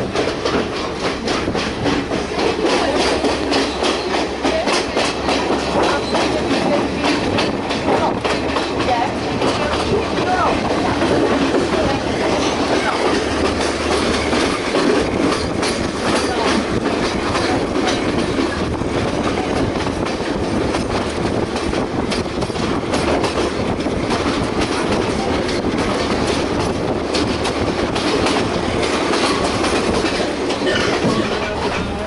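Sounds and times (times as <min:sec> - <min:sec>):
train rumbling on rails: 0:00.0 - 0:32.0
wheels clattering over track: 0:00.0 - 0:32.0.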